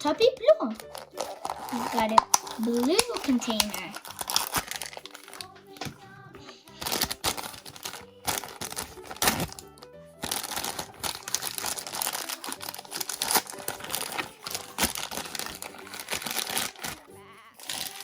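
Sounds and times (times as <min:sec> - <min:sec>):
background music: 0:00.0 - 0:18.0
plastic packaging crinkling: 0:00.6 - 0:18.0.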